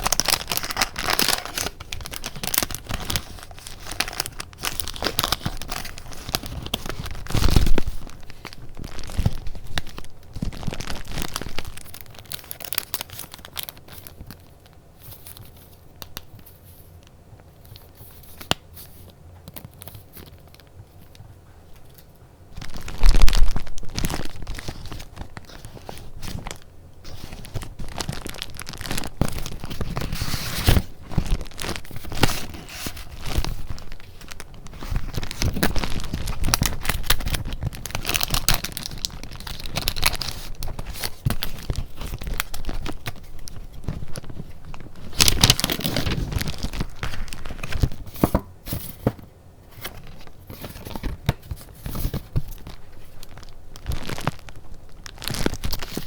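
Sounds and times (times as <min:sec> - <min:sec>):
paper crinkling and rustling: 0:00.0 - 0:56.0.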